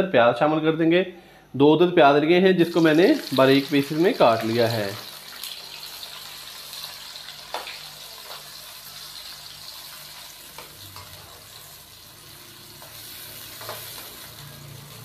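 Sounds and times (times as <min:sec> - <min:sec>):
onions sizzling in oil: 0:02.6 - 0:15.0.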